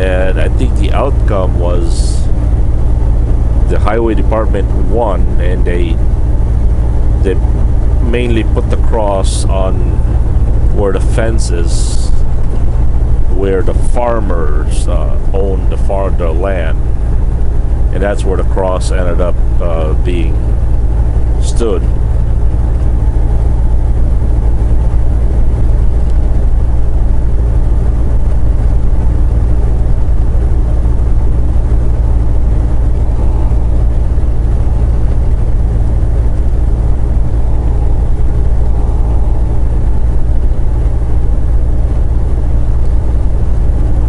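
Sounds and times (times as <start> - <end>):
road noise: 0.0 - 44.0
truck diesel engine droning: 0.0 - 44.0.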